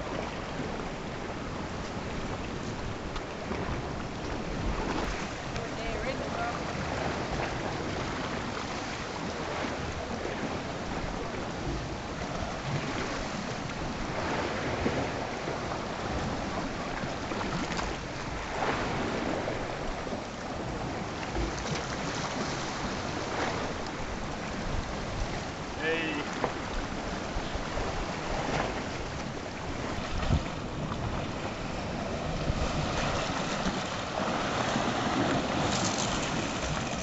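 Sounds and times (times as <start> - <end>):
sea washing against rocks: 0.0 - 37.0
wind on microphone: 0.0 - 37.0.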